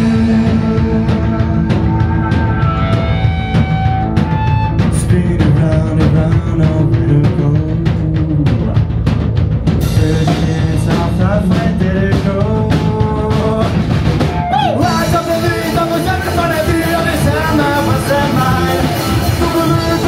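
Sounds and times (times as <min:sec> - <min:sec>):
person singing: 0:00.0 - 0:03.0, 0:04.8 - 0:08.9, 0:09.9 - 0:20.0
bass guitar: 0:00.0 - 0:20.0
drum kit: 0:00.0 - 0:20.0
electric guitars: 0:00.0 - 0:20.0.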